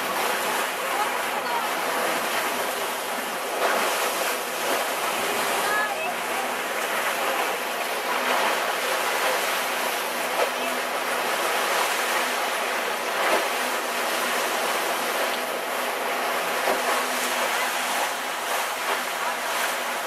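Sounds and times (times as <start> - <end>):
faint low boat hum: 0.0 - 20.0
water rushing along boat hull: 0.0 - 20.0.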